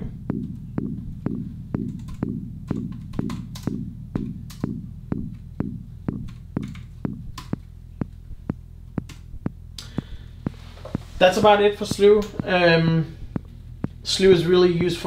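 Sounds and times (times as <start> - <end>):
synthesizer plucked notes: 0.0 - 15.0.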